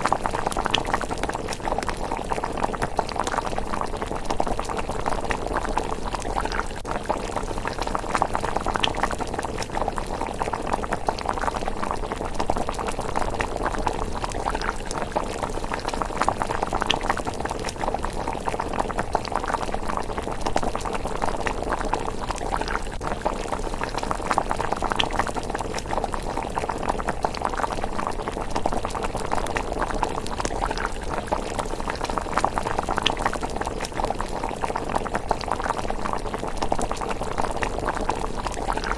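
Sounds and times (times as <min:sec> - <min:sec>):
porridge bubbling in pot: 0:00.0 - 0:38.9.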